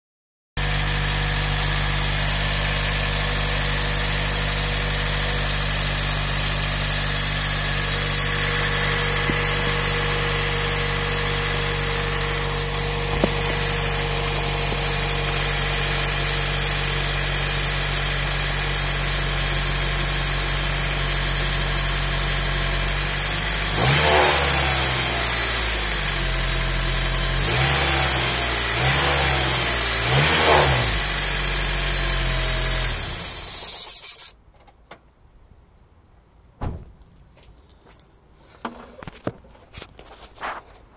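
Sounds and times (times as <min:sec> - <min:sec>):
car engine revving: 0:00.6 - 0:33.5
car engine idling with whine: 0:00.6 - 0:34.3.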